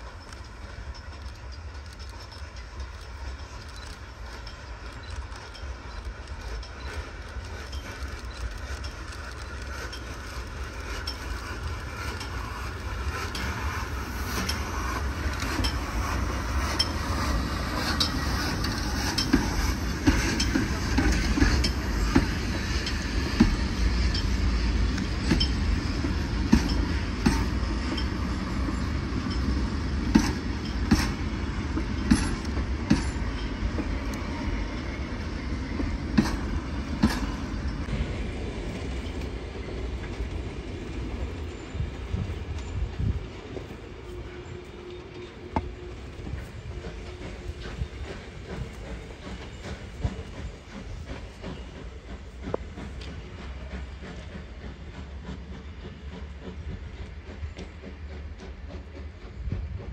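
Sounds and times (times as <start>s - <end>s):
train rumbling: 0.0s - 59.9s
train wheels clicking on rail joints: 0.0s - 59.9s.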